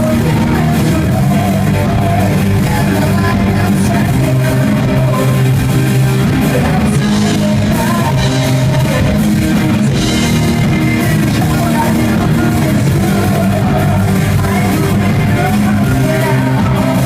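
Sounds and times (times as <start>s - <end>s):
bass guitar: 0.0s - 17.0s
drum kit: 0.0s - 17.0s
electric guitars: 0.0s - 17.0s
person singing: 0.0s - 17.0s.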